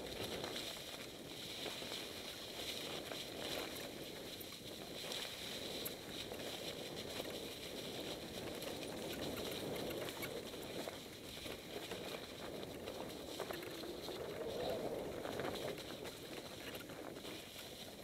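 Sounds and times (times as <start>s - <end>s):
bike tyres rolling through leaves: 0.0s - 18.0s.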